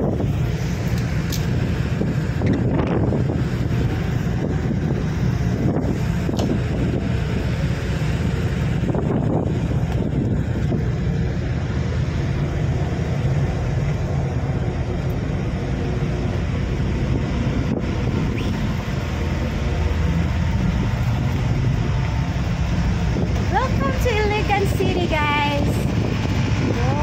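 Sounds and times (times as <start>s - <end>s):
boat engine droning: 0.0s - 27.0s
wind on microphone: 0.0s - 27.0s.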